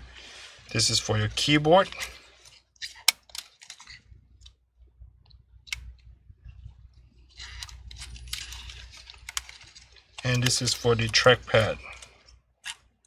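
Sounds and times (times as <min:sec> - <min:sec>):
handling rustling: 0:00.0 - 0:12.5.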